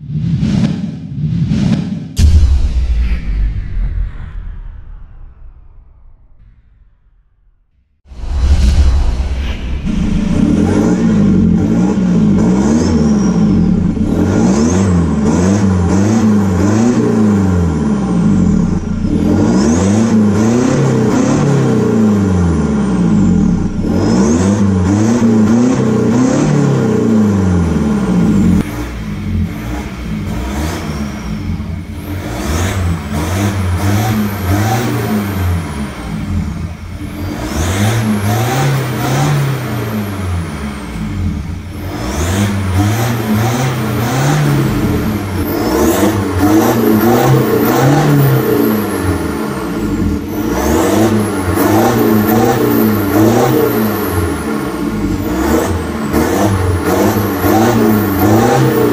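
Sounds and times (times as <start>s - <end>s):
diesel engine revving: 8.1s - 58.9s.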